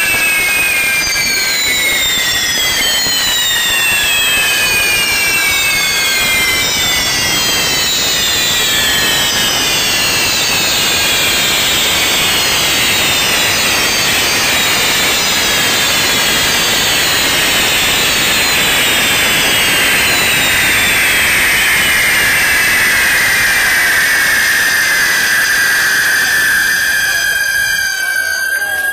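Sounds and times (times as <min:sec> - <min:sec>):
fireworks rushing hiss: 0:00.0 - 0:28.9
gliding whistling tones: 0:00.0 - 0:28.9.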